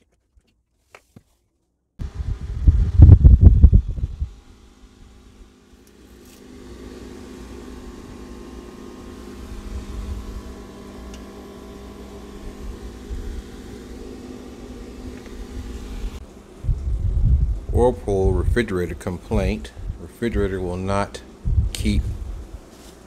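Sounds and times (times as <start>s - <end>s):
refrigerator motor hum: 2.0s - 23.0s.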